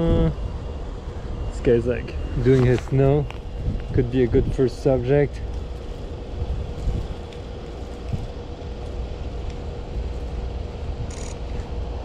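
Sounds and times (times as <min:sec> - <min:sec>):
faint constant hum: 0:00.0 - 0:12.0
outdoor street noise: 0:00.0 - 0:12.0
wind rumbling on microphone: 0:02.2 - 0:12.0.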